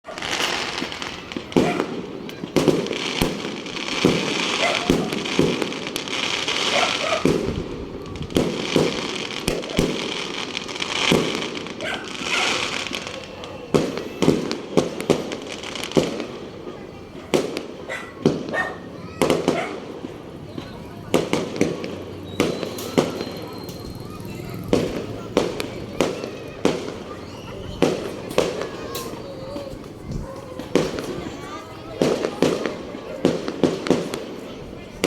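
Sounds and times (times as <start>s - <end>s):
fireworks bangs: 0.1s - 35.0s
fireworks crackle: 0.1s - 35.0s.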